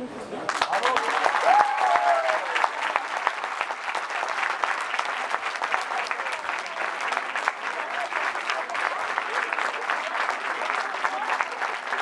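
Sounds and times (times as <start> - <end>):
audience applauding: 0.5 - 12.0.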